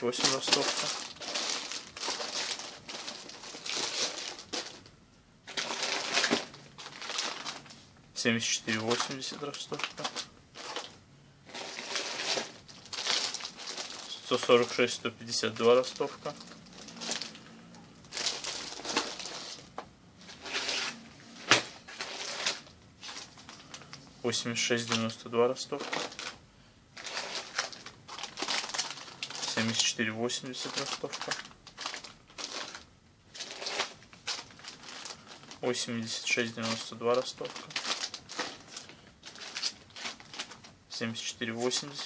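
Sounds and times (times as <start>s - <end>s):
plastic packaging crinkling: 0.0s - 24.0s, 24.7s - 26.4s, 27.0s - 42.0s.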